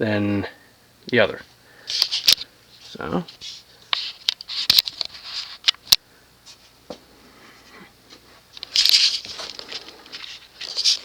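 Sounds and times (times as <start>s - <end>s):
handling rustling and scraping: 1.9s - 11.0s.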